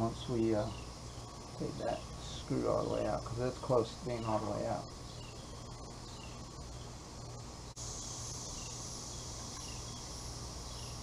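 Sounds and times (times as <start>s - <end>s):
high insect buzz: 0.0s - 11.0s
insect chorus: 0.0s - 11.0s
small chirps: 0.6s - 11.0s.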